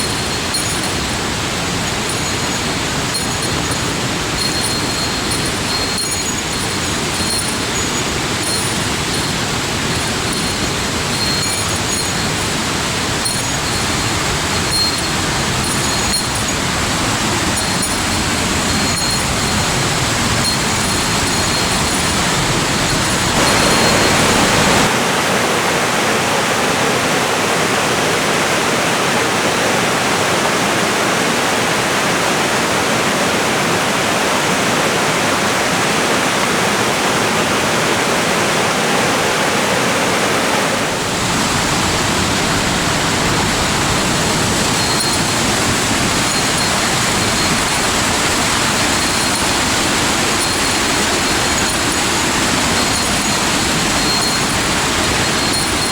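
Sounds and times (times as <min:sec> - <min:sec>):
waterfall and stream rushing: 0:00.0 - 0:55.9.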